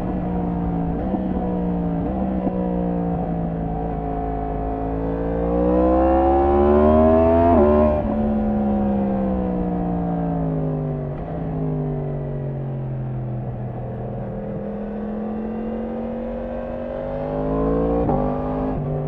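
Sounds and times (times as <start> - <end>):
motorcycle engine revving: 0.0 - 10.5, 14.2 - 19.0.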